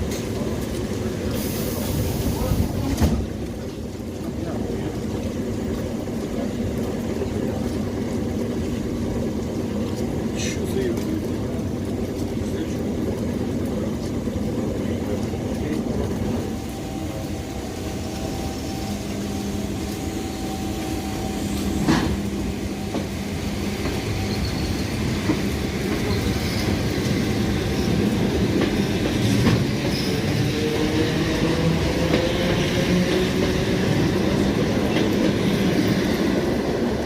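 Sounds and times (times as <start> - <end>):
train wheels clattering on rails: 0.0 - 17.2, 18.1 - 37.0.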